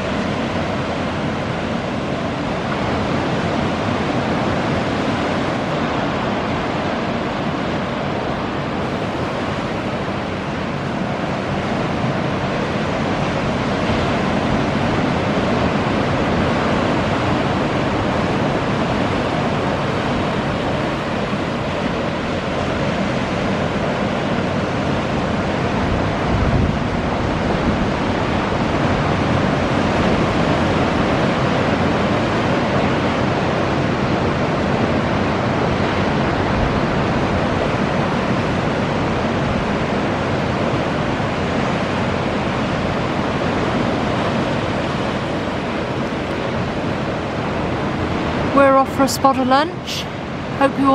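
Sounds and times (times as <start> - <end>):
small waves breaking on beach: 0.0 - 50.9
wind noise on microphone: 0.0 - 50.9.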